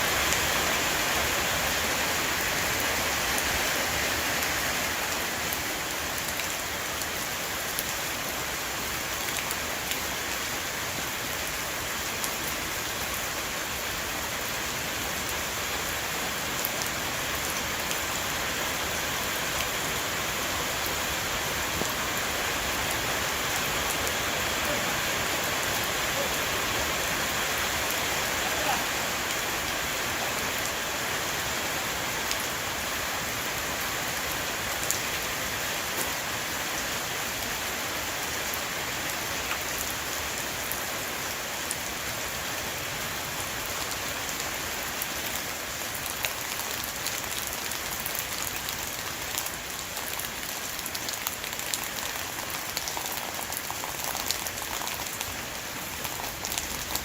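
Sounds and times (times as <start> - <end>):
rain hissing on a roof: 0.0 - 57.0.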